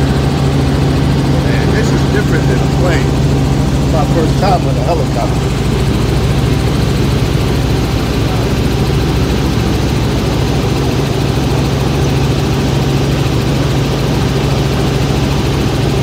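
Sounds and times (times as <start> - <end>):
constant rushing noise: 0.0 - 16.0
helicopter drone inside cabin: 0.0 - 16.0.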